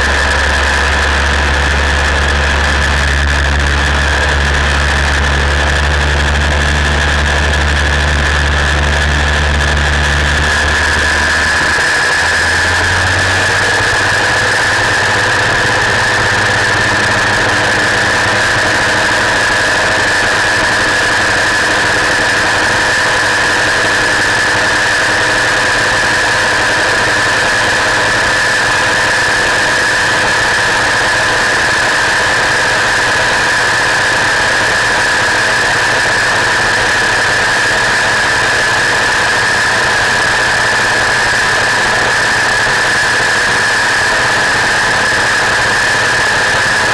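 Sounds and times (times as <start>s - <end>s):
aircraft engine and propeller: 0.0s - 46.9s
high-pitched whine: 0.0s - 46.9s.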